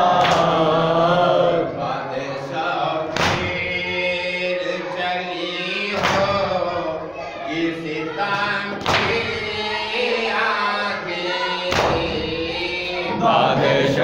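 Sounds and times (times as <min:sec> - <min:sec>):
men chanting a lament: 0:00.0 - 0:14.0.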